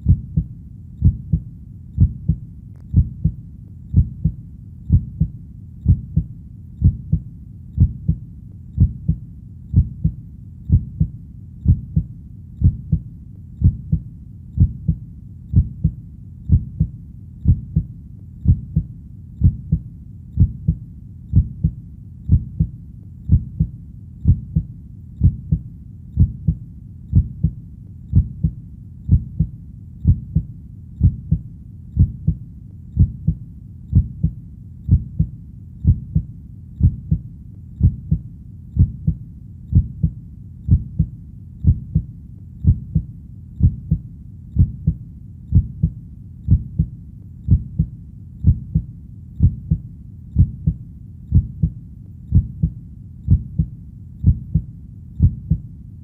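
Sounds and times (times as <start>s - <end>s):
heartbeat double thump: 0.0s - 1.4s, 2.0s - 7.2s, 7.8s - 8.2s, 8.8s - 13.0s, 13.6s - 14.0s, 14.6s - 19.8s, 20.4s - 22.7s, 23.3s - 25.6s, 26.2s - 31.4s, 32.0s - 32.4s, 33.0s - 37.2s, 37.8s - 38.2s, 38.8s - 44.0s, 44.6s - 46.9s, 47.5s - 49.8s, 50.4s - 55.6s
faint low rumble: 0.0s - 56.0s.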